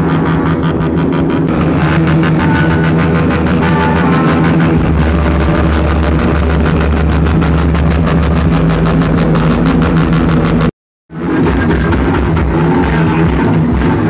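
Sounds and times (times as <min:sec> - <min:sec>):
loud music with heavy bass: 0:00.0 - 0:14.0
motorcycle engines running: 0:00.0 - 0:14.0.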